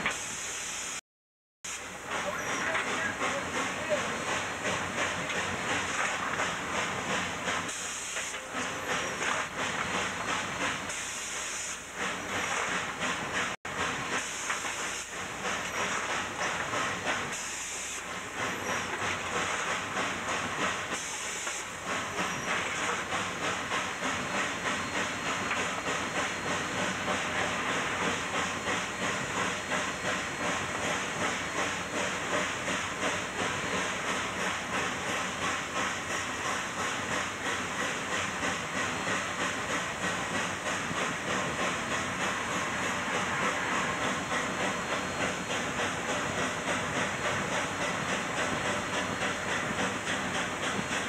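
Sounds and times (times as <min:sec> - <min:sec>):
hiss of steam: 0:00.0 - 0:01.0, 0:01.7 - 0:51.0
steam locomotive exhaust beats: 0:01.7 - 0:51.0
engine clatter: 0:02.0 - 0:10.9, 0:18.0 - 0:51.0.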